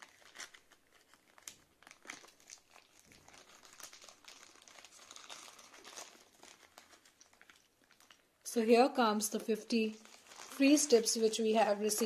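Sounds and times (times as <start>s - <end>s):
plastic mailer crinkling: 0.0s - 8.3s, 9.2s - 12.0s.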